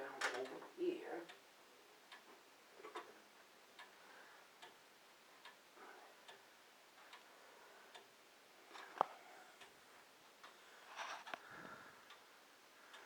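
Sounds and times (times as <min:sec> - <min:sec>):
clock ticking: 0:00.0 - 0:13.0.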